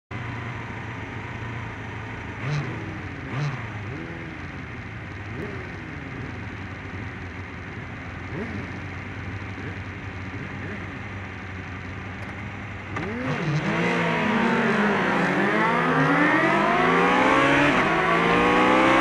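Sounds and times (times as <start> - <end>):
motorcycle engines idling: 0.1 - 17.0.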